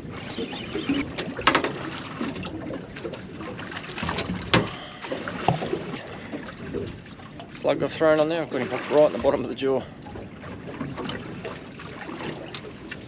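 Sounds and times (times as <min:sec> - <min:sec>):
water slapping boat hull: 0:00.0 - 0:13.0.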